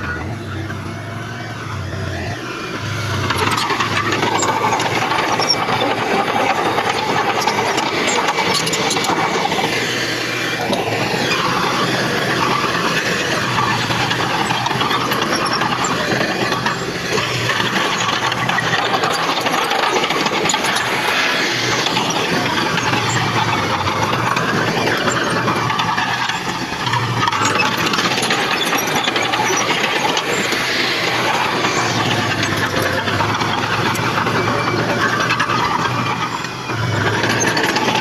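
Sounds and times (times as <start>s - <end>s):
heavy machinery engine running: 0.0s - 38.0s
machinery clanks: 0.0s - 38.0s.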